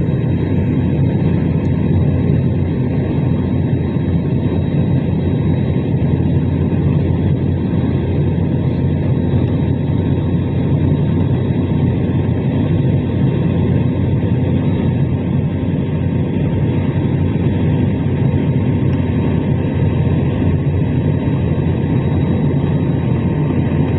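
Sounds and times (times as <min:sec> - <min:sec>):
airliner cabin engine rumble: 0:00.0 - 0:23.9.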